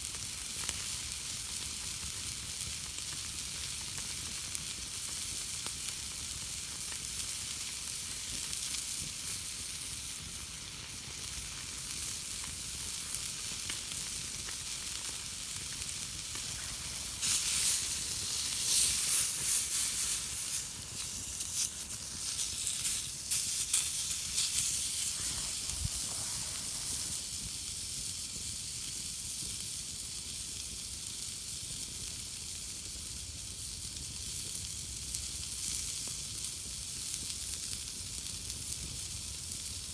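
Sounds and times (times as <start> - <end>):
food sizzling on a griddle: 0.0 - 39.9
wood fire crackling: 0.0 - 39.9.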